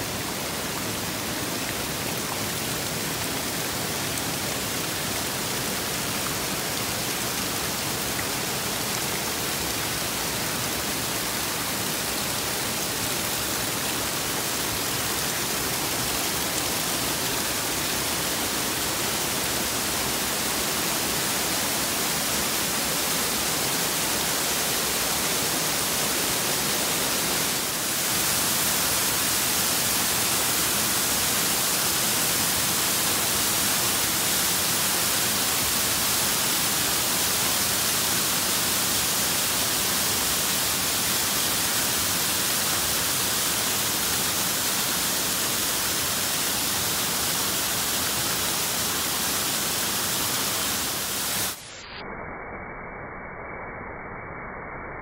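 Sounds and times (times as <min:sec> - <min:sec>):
river water rushing: 0:00.0 - 0:51.6.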